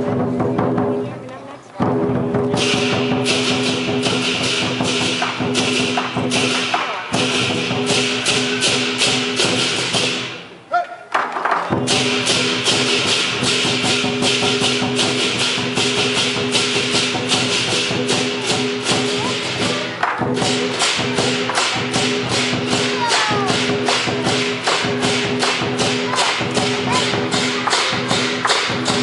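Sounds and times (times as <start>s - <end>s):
drum beat: 1.8s - 10.3s, 11.8s - 29.0s
cymbals clashing: 1.9s - 10.5s, 11.7s - 29.0s.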